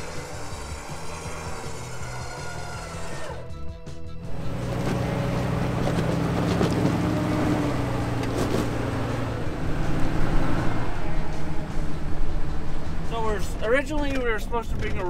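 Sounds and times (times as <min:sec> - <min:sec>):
off-road truck engine climbing: 0:00.0 - 0:15.0.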